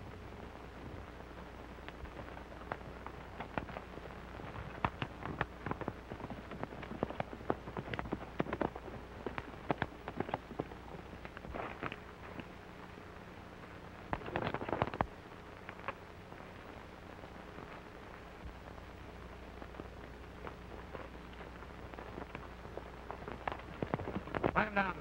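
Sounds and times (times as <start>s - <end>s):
film soundtrack hiss and hum: 0.0s - 25.0s.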